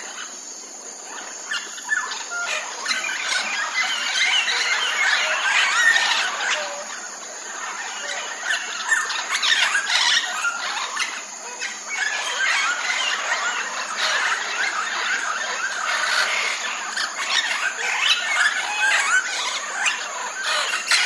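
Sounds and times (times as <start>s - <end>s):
parrots squawking: 1.9s - 21.0s.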